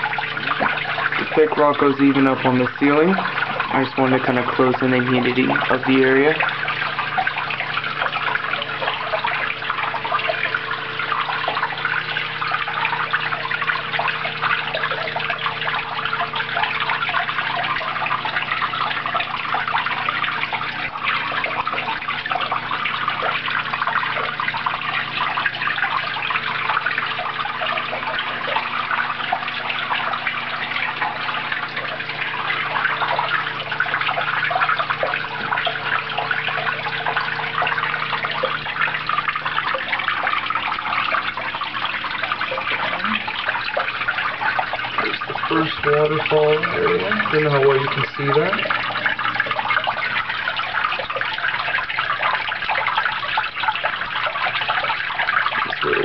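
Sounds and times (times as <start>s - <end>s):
water splashing and trickling: 0.0s - 56.0s.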